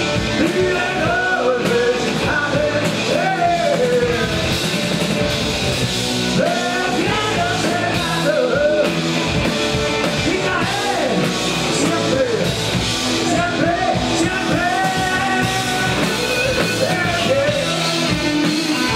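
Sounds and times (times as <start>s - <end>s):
man singing: 0.0s - 4.8s, 6.3s - 9.1s, 10.0s - 18.9s
drums: 0.0s - 18.9s
electric guitars: 0.0s - 18.9s.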